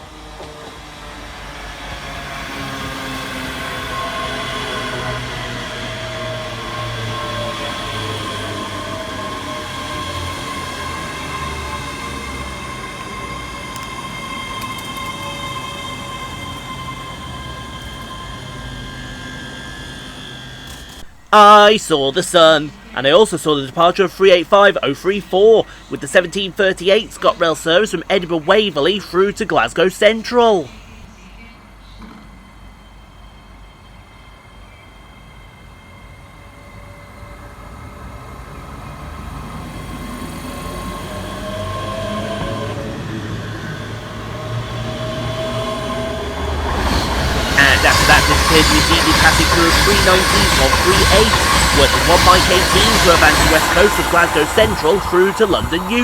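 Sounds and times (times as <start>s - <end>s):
wheels rumbling on rail: 0.0s - 21.3s, 30.6s - 56.0s
electric train whine: 0.0s - 56.0s.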